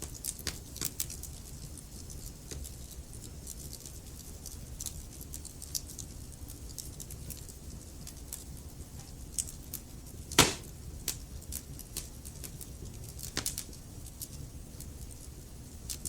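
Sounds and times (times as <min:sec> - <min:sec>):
wood fire snapping and popping: 0:00.0 - 0:16.0.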